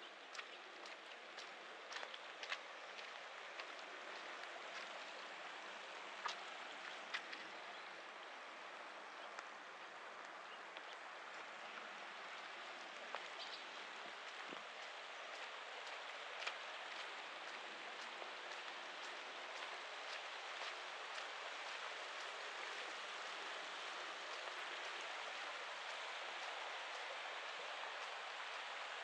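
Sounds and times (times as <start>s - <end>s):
rain falling: 0.0s - 29.0s
raindrops ticking on surfaces: 0.0s - 29.0s.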